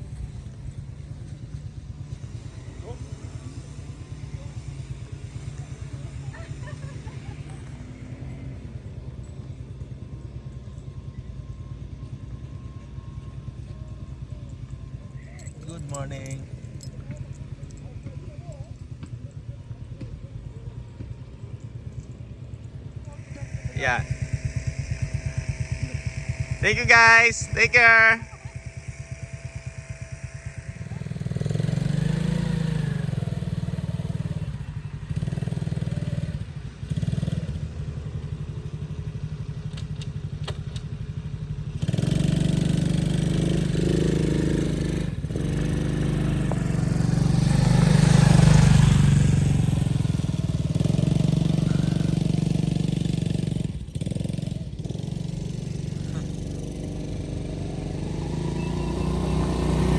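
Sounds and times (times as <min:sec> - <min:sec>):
vehicle engine pulsing hum: 0:00.0 - 0:59.9.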